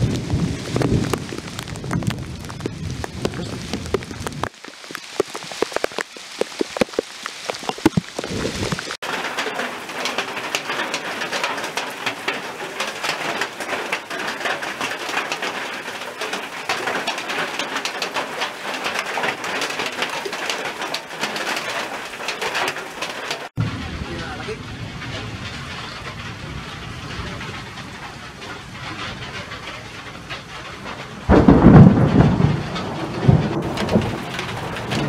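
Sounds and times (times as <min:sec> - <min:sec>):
big raindrops tapping: 0:00.0 - 0:35.0
heavy rain on leaves: 0:00.0 - 0:35.0.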